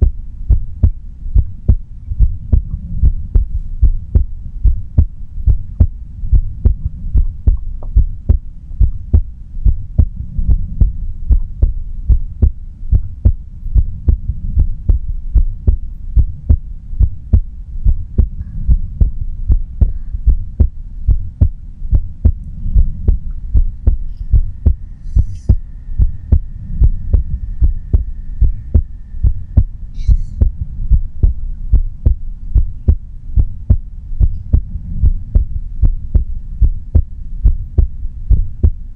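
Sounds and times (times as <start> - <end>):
heartbeat: 0.0 - 38.9
low continuous rumble: 0.0 - 38.9.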